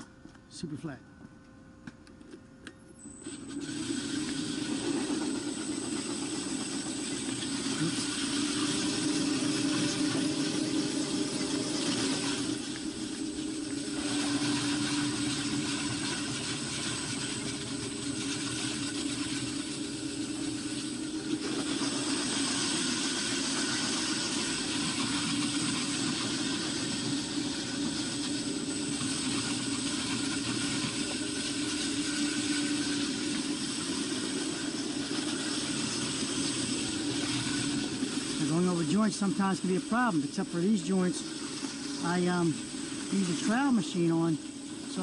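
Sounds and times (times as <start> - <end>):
concrete floor grinder running: 3.2 - 45.0.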